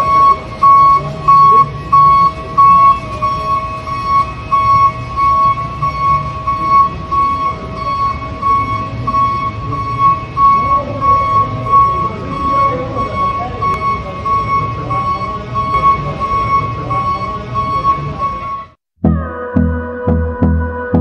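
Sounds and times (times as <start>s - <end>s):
high electronic beeping: 0.0s - 18.8s.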